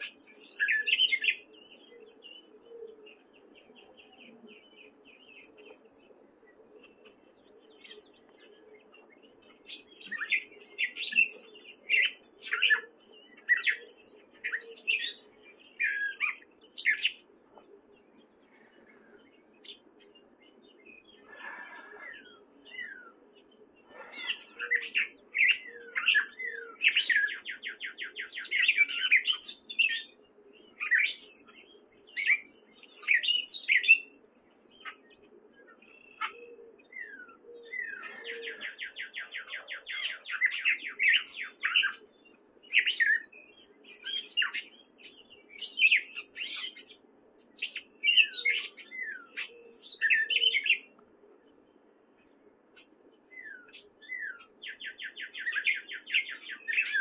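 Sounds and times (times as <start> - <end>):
catbird singing: 0.0 - 57.0.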